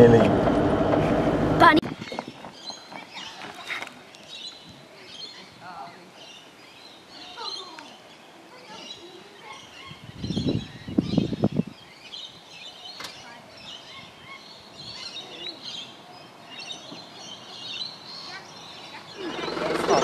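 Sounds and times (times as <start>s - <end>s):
small birds chirping: 1.6s - 20.0s.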